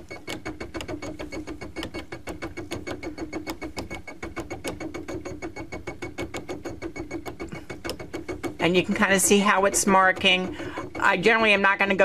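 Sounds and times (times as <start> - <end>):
embroidery machine ticking and humming: 0.0 - 12.0.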